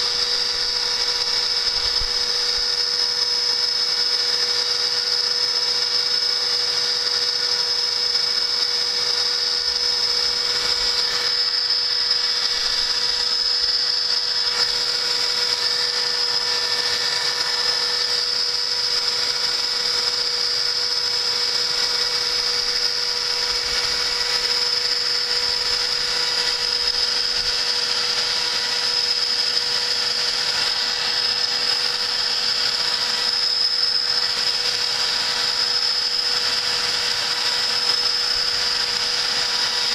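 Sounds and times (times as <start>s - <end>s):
cnc spindle high whine: 0.0s - 39.9s.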